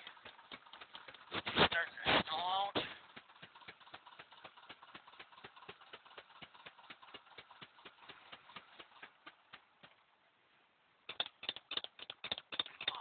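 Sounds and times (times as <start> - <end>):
engine cranking by starter: 0.0 - 10.0, 11.1 - 13.0.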